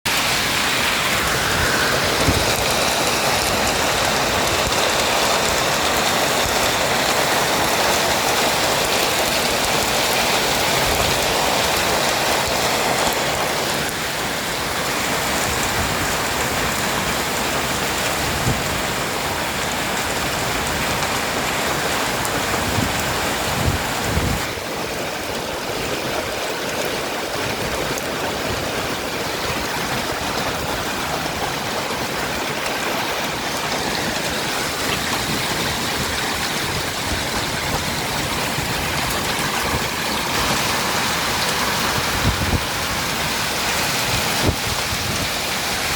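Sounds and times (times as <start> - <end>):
heavy rain with hail: 0.0 - 45.9
strong wind: 0.0 - 45.9.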